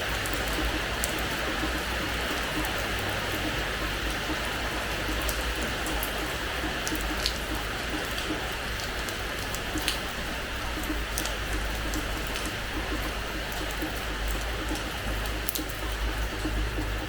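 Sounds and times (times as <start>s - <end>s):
rain on a hard floor: 0.0s - 17.0s.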